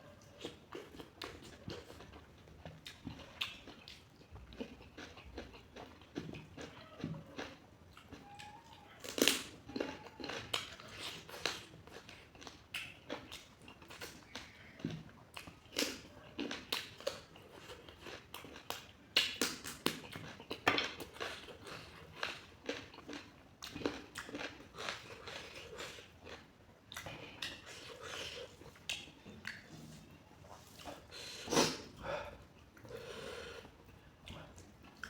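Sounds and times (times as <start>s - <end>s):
person chewing and biting: 0.4s - 8.1s, 9.0s - 29.7s.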